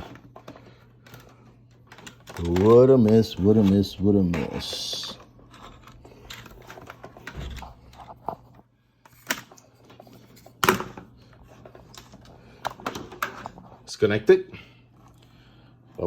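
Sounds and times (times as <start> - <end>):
cables and plastic plugs handled: 0.0 - 13.8.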